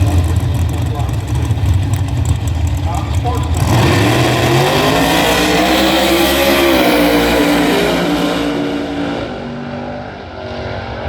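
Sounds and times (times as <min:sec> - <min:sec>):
drag racing car engine accelerating: 0:00.0 - 0:11.0.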